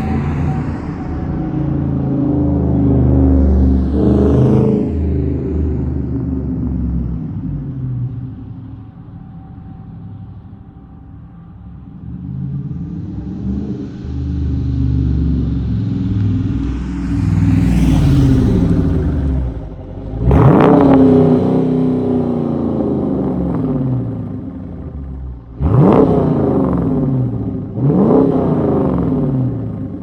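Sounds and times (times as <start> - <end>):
car engine exhaust revving: 0.0 - 8.9, 12.0 - 30.0.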